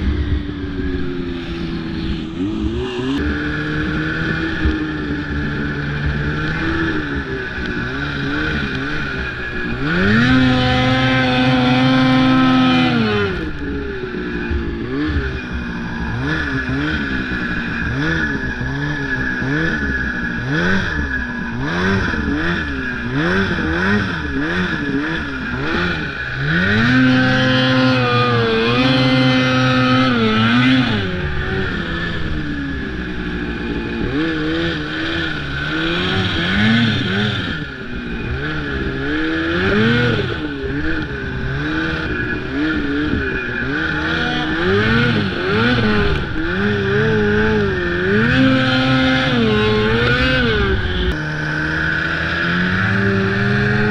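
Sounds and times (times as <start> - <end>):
snowmobile engine revving: 0.0 - 53.9
steady high whine: 0.0 - 53.9.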